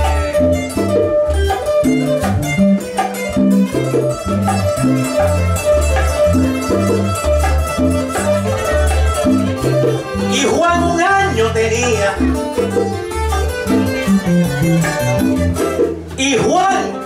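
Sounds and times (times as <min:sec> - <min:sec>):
bass line: 0:00.0 - 0:17.0
plucked strings: 0:00.0 - 0:17.0.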